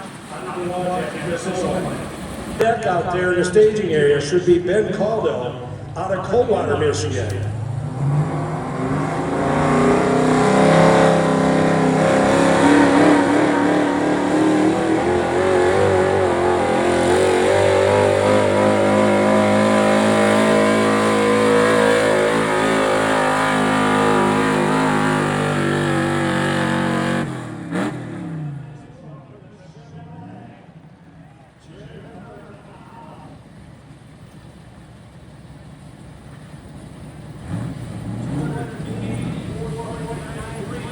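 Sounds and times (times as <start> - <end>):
truck engine revving under load: 0.0 - 28.9, 33.2 - 40.9.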